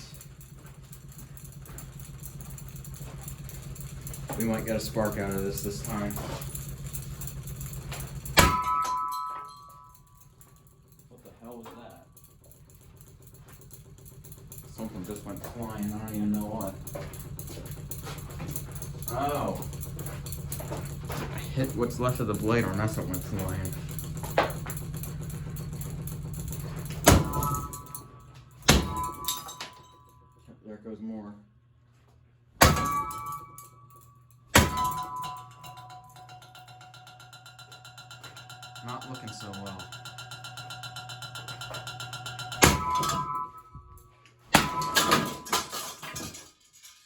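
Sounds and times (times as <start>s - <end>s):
ceiling fan motor humming: 0.0s - 30.3s, 32.5s - 46.5s
clattering metal blows: 0.0s - 30.3s, 32.6s - 47.0s
loud impacts on fan ringing: 0.0s - 30.4s, 32.6s - 46.8s.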